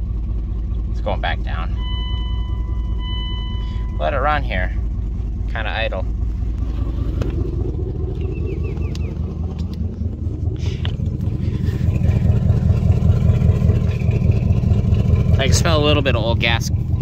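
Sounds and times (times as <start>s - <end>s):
engine idling roughly: 0.0s - 17.0s.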